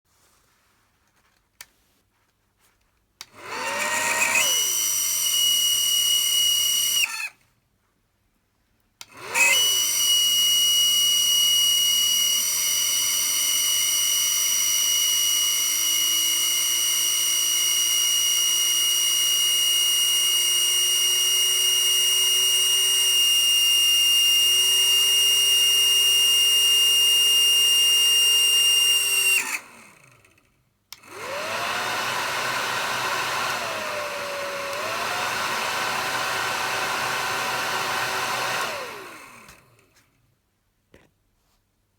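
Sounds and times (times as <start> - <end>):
hair dryer whining: 3.2 - 7.4, 9.0 - 30.3, 30.9 - 40.0.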